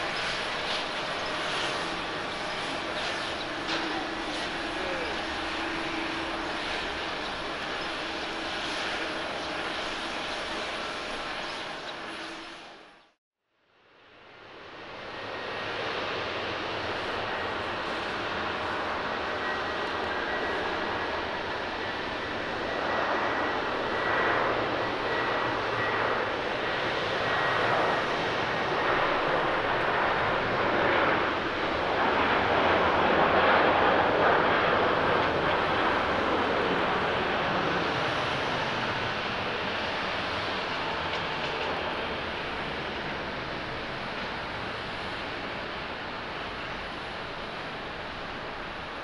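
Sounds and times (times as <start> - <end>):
jet engines taking off: 0.0 - 13.2, 13.9 - 49.0.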